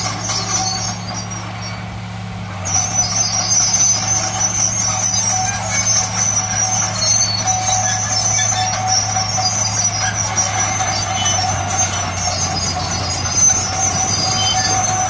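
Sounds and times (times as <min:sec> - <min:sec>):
diesel earth-moving machinery: 0:00.0 - 0:15.0.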